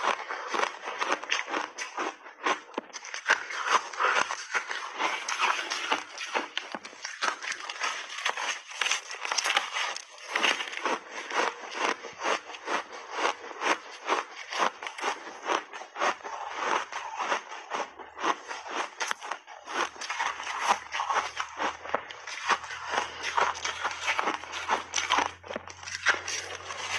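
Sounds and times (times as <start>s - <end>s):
ice crunching being chewed: 0.0s - 26.9s.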